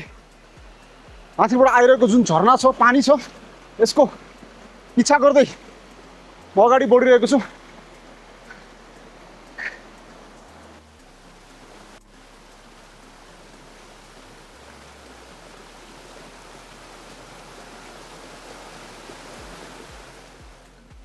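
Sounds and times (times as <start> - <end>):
low music beat: 0.0 - 21.0
stream rushing over rocks: 0.0 - 21.0.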